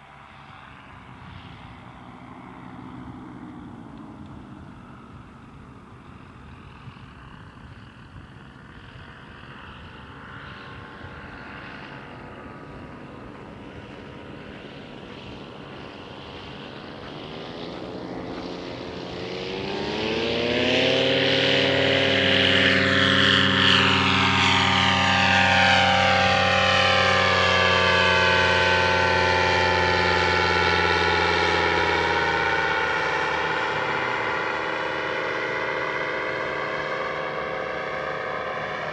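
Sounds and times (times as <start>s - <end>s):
paramotor engine droning: 0.0s - 38.9s.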